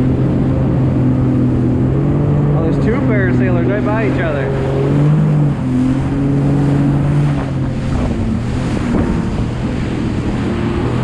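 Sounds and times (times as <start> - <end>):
jet ski engine drone: 0.0 - 11.0
water rushing past hull: 0.0 - 11.0
wind buffeting microphone: 0.0 - 11.0.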